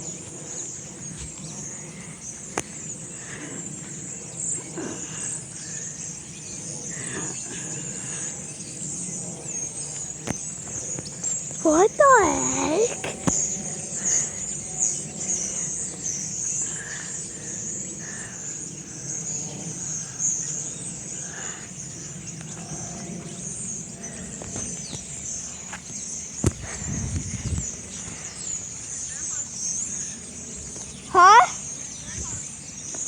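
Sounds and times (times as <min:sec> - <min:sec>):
flock of birds chirping: 0:00.0 - 0:33.0.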